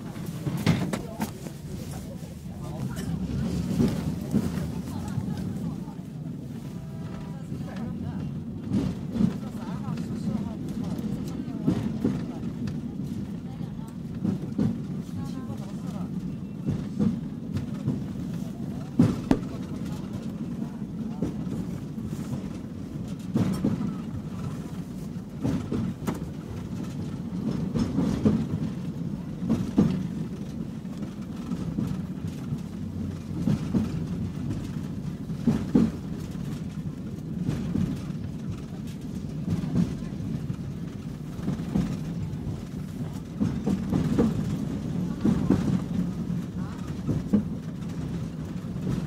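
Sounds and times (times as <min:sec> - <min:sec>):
tram rumbling on rails: 0:00.0 - 0:49.0
wheels clacking on track: 0:00.0 - 0:49.0.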